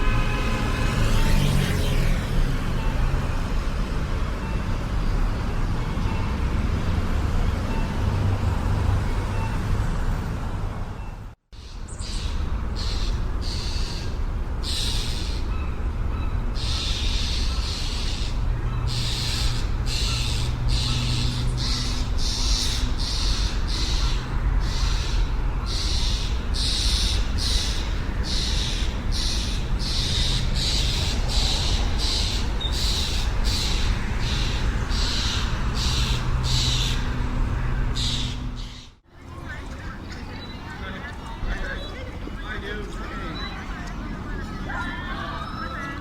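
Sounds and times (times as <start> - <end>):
low city hum: 0.0 - 46.0.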